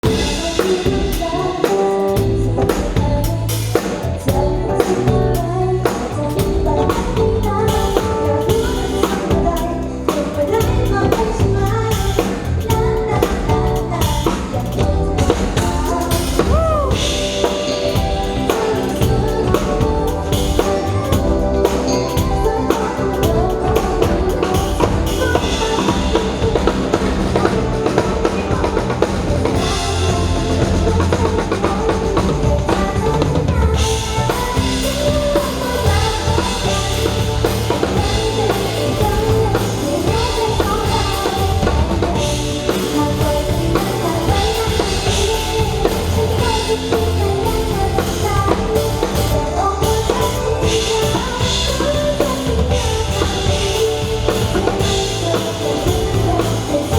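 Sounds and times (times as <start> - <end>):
drum kit beat: 0.0 - 56.9
live band playing pop-rock: 0.0 - 56.9.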